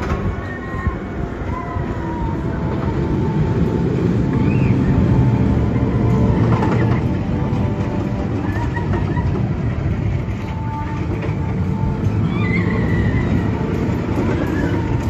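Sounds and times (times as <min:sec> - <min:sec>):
roller coaster rumbling on track: 0:00.0 - 0:15.0.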